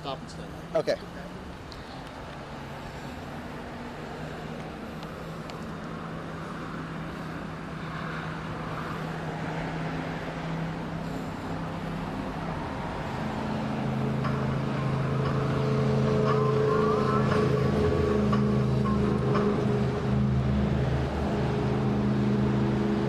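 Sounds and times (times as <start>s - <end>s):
street traffic: 0.0s - 23.0s
vehicle engine running close by: 0.4s - 23.0s.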